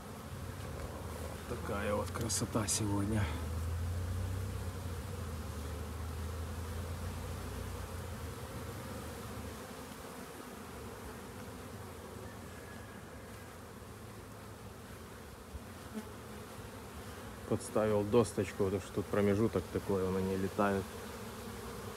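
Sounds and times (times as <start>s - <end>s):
bees buzzing: 0.0s - 21.9s.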